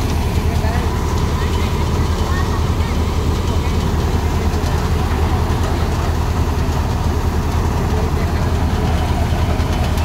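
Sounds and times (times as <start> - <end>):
tractor engine drone: 0.0 - 10.0.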